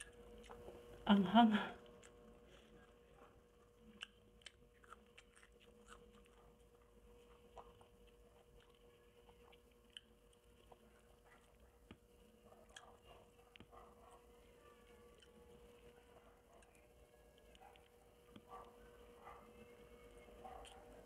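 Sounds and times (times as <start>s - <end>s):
close-up chewing: 0.0s - 1.1s, 1.7s - 21.0s
faint hum: 0.0s - 21.0s.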